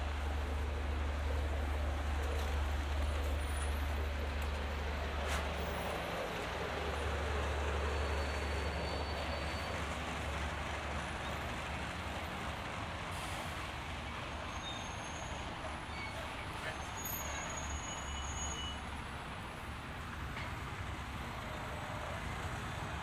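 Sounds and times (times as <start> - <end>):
heavy vehicle engine rumble: 0.0 - 23.0
road noise hiss: 0.0 - 23.0.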